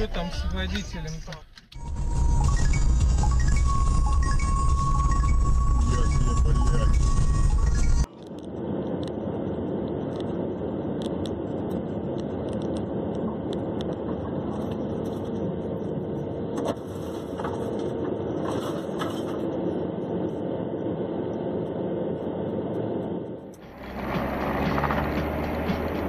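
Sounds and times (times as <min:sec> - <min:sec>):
vehicle road and engine noise: 0:00.0 - 0:26.0.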